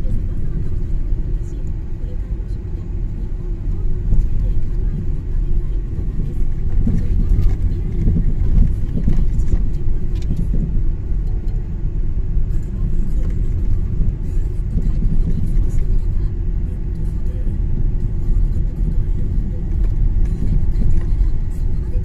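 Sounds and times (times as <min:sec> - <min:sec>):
car engine rumble: 0:00.0 - 0:22.0
car tyres on snowy road: 0:00.0 - 0:22.0.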